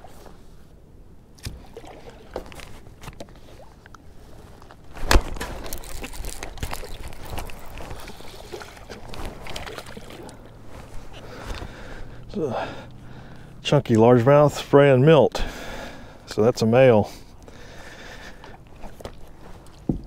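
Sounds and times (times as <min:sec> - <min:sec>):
water splashing and sloshing: 0:00.0 - 0:13.8, 0:17.1 - 0:20.0.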